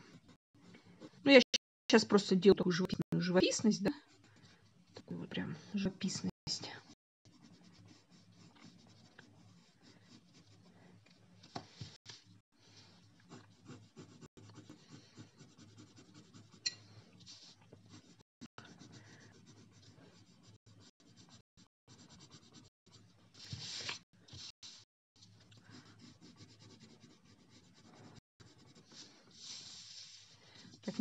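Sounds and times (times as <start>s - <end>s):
pencil scratching on paper: 0.0s - 1.3s, 3.6s - 4.9s, 6.6s - 31.0s.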